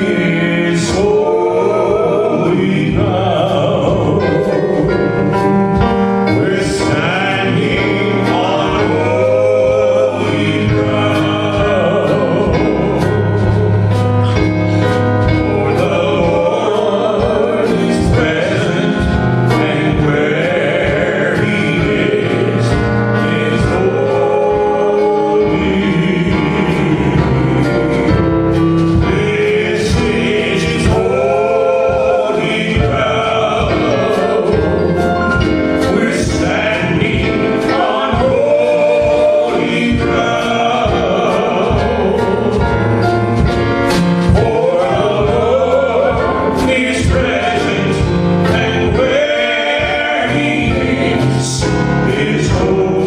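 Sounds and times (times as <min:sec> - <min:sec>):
gospel choir singing with music: 0:00.0 - 0:53.0.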